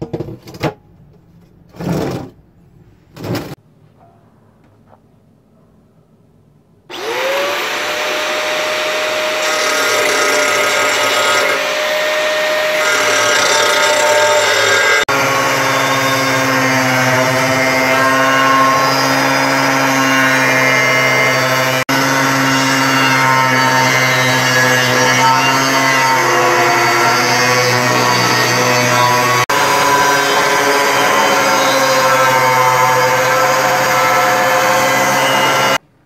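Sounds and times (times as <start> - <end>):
angle grinder whine: 6.9 - 35.8
harsh grinding on metal: 6.9 - 35.8.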